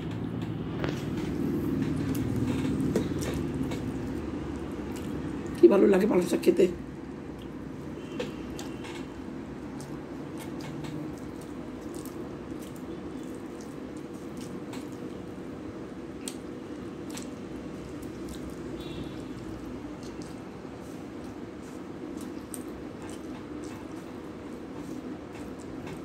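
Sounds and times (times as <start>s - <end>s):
low background hum: 0.0s - 26.0s
wet chewing and mouth clicks: 0.7s - 5.6s, 7.0s - 26.0s.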